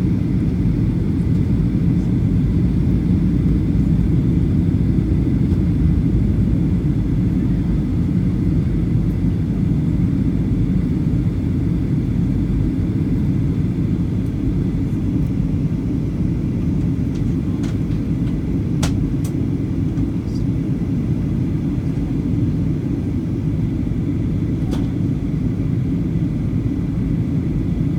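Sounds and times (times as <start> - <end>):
airplane cabin engine rumble: 0.0 - 27.9.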